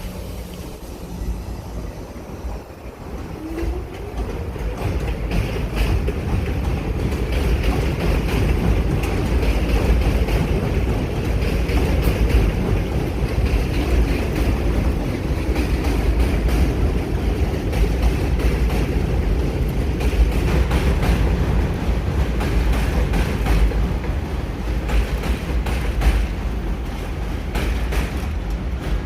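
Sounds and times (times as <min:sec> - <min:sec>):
subway train rumbling: 0:00.0 - 0:29.0.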